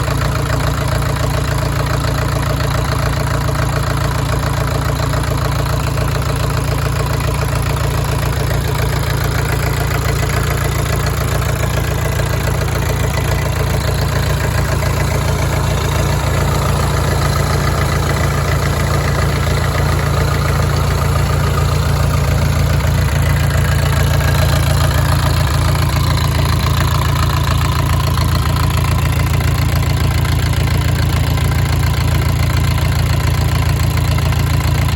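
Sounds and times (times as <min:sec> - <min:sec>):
diesel generator idling: 0:00.0 - 0:34.9.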